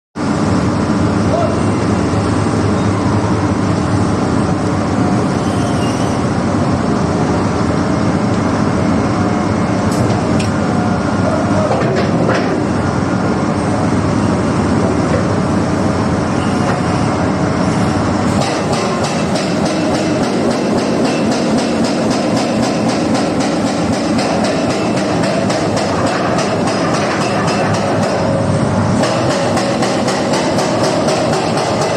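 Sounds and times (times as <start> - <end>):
excavator diesel engine: 0.2 - 31.9.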